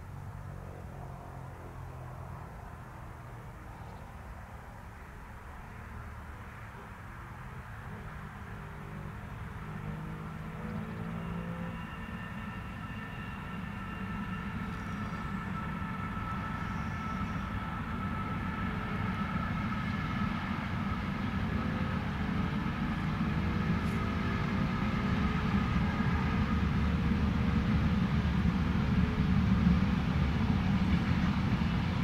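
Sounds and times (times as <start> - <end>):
train wheels rumbling on rails: 5.0 - 32.0.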